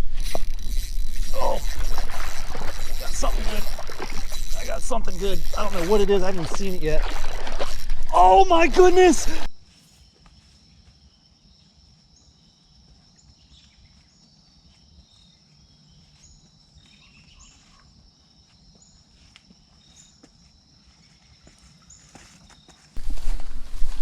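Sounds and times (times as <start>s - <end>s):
high-pitched insect trill: 0.0s - 22.8s.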